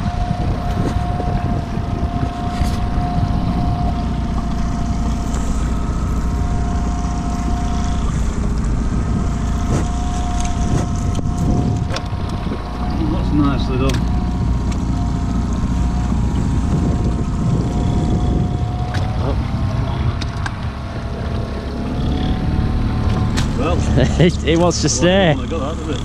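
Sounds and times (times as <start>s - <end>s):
wind on microphone: 0.0s - 23.7s
outboard motor idling: 0.0s - 26.0s.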